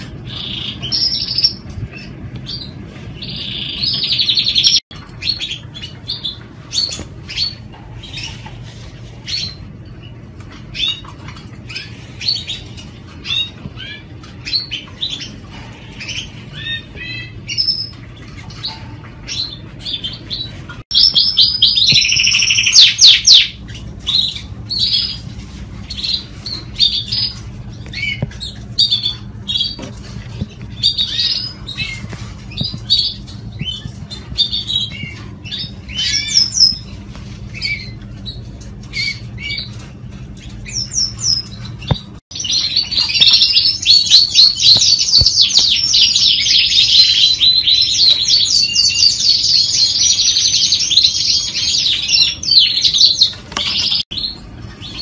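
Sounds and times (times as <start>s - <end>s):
canaries chirping: 0.0s - 55.0s
canary trilling song: 0.0s - 55.0s.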